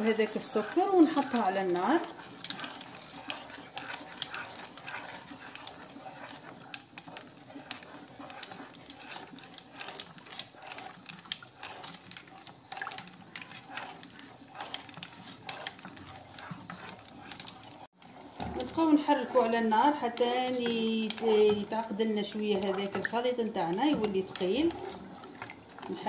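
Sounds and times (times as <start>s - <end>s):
wooden spoon scraping a saucepan: 0.0s - 26.0s.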